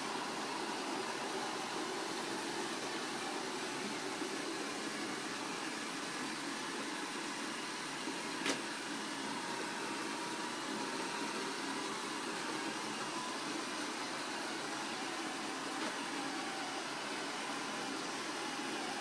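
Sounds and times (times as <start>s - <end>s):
robot vacuums whirring: 0.0s - 19.0s.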